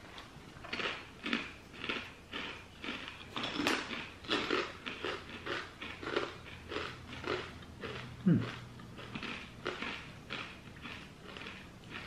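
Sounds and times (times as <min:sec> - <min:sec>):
person chewing crisp chip: 0:00.0 - 0:12.0.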